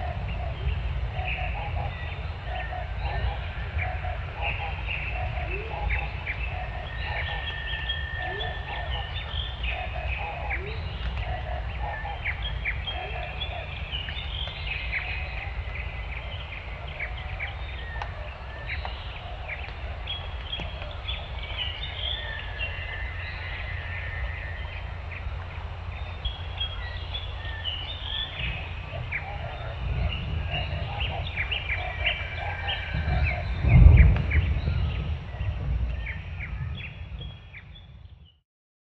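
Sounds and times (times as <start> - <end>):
low background rumble: 0.0 - 38.3
birds chirping: 0.0 - 38.4.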